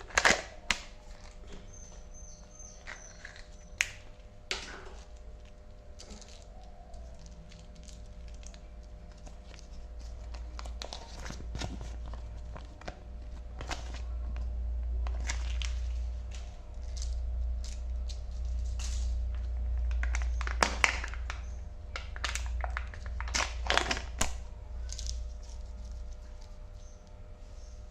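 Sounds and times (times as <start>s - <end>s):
steady low hum: 0.0s - 27.9s
wrapper crinkling: 2.8s - 27.1s.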